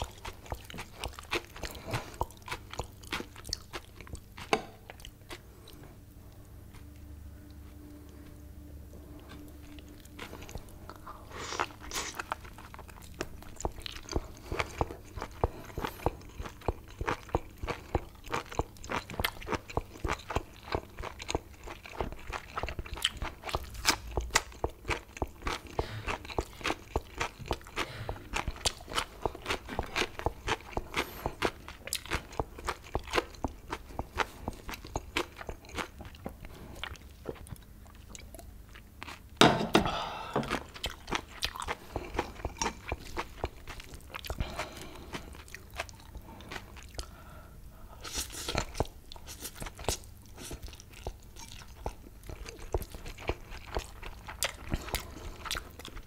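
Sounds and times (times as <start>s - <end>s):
crunchy chewing: 0.0s - 8.4s, 9.1s - 39.4s, 40.4s - 47.2s, 48.0s - 56.0s.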